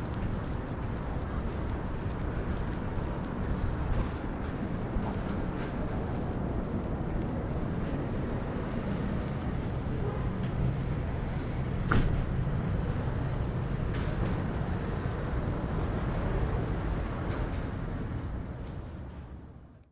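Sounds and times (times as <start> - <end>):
low traffic rumble: 0.0 - 19.9.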